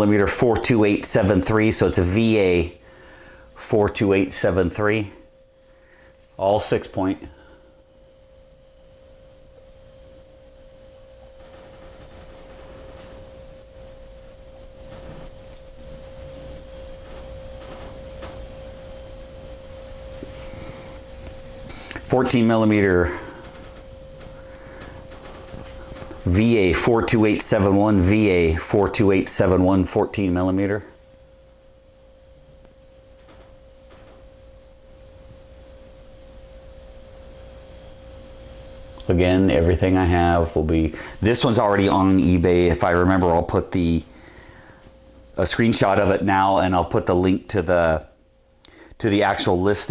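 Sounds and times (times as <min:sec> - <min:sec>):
steady even tone: 0:00.0 - 0:48.0
low electrical hum: 0:00.0 - 0:49.9
steady high whine: 0:00.0 - 0:49.9.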